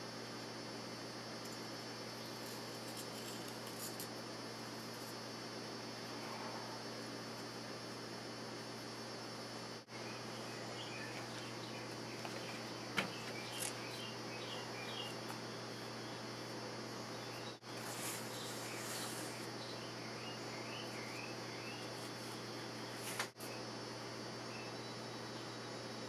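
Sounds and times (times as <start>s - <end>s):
low electrical hum and hiss: 0.0s - 26.0s.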